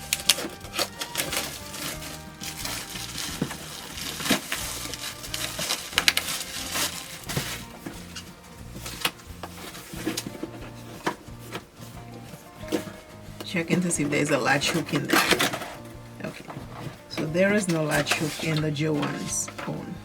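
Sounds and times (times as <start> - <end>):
plastic rustling and crinkling: 0.0 - 20.0
quiet background music: 0.0 - 20.0.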